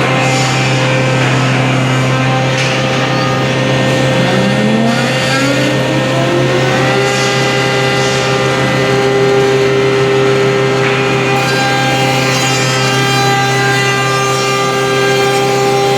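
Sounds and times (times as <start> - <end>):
router spindle whine: 0.0 - 15.9.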